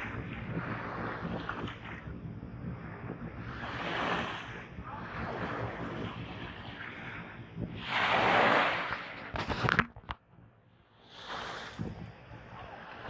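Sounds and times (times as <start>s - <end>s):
small waves lapping on sand: 0.0s - 9.7s, 10.9s - 13.0s
wind on microphone: 0.0s - 13.0s.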